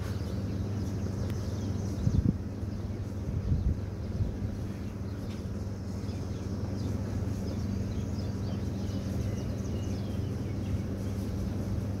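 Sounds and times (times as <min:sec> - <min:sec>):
low outdoor hum: 0:00.0 - 0:12.0.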